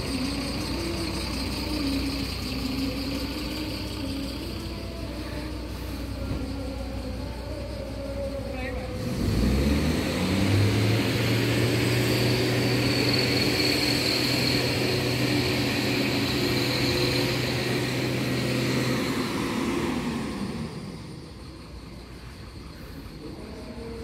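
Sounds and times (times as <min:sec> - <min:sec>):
bus diesel engine revving: 0:00.0 - 0:24.0
high whine: 0:00.0 - 0:24.0.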